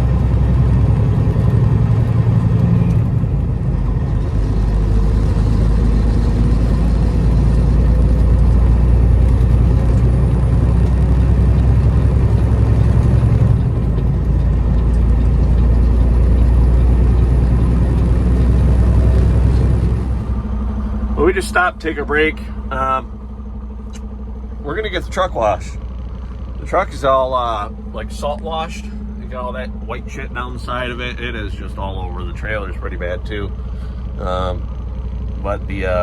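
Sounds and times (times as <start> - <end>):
truck diesel engine drone: 0.0 - 36.0.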